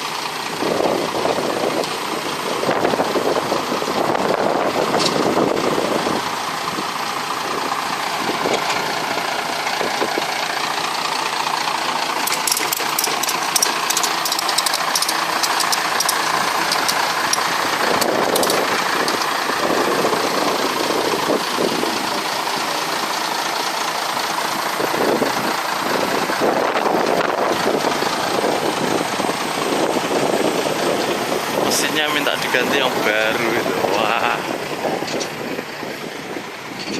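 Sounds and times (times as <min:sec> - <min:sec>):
boat engine idling: 0:00.0 - 0:36.9.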